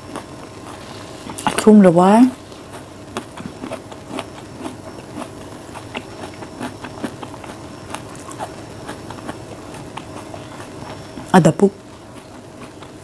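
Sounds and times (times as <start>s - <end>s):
person chewing fruit: 0.0s - 13.0s.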